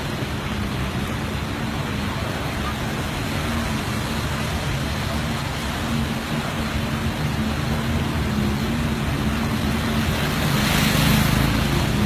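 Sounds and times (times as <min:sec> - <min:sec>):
rushing noise: 0:00.0 - 0:12.0.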